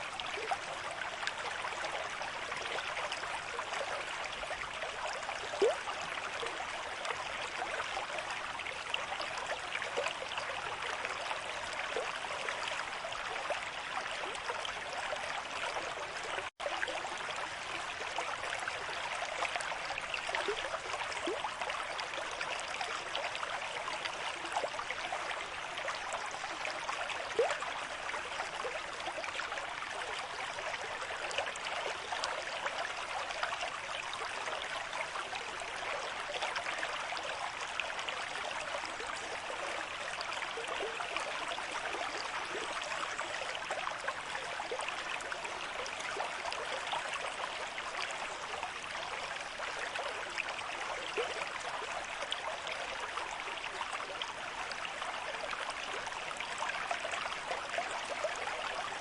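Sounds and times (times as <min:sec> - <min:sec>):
stream running water: 0:00.0 - 0:59.0.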